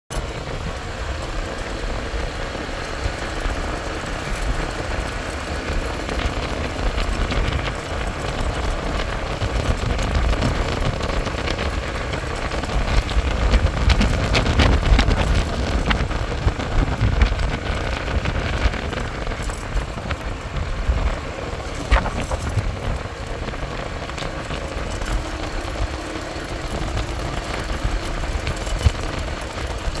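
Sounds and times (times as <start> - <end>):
motorbike engine: 0.1 - 30.0
wind buffeting microphone: 0.1 - 30.0.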